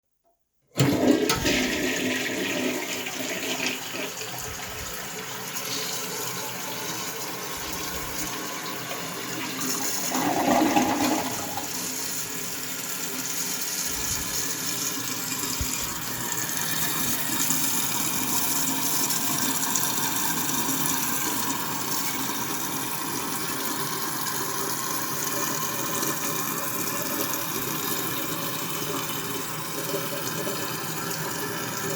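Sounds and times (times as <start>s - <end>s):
toilet flushing: 0.7s - 31.9s
water running as tank refills: 0.7s - 31.9s.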